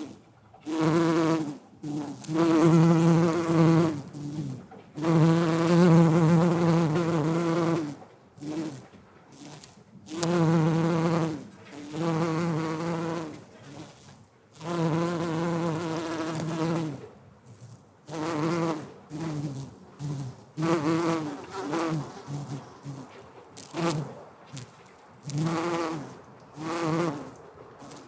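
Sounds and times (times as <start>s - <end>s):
bumblebee buzzing in flight: 0.7s - 17.0s, 17.6s - 28.0s.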